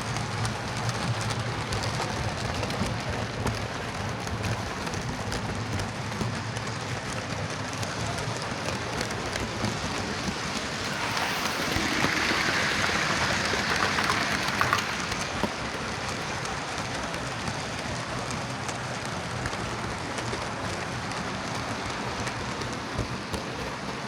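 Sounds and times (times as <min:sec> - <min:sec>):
model train whirring and rattling: 0:00.0 - 0:24.0.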